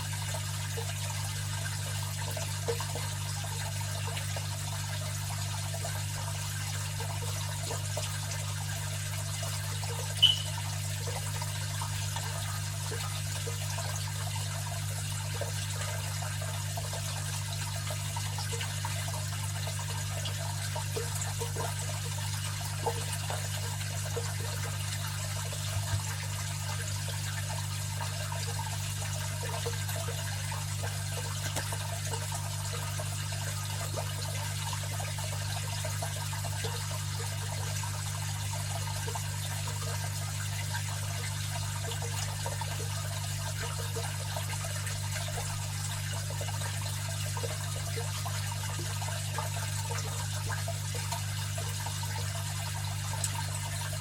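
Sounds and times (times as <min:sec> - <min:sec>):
water trickling and bubbling: 0:00.0 - 0:54.0.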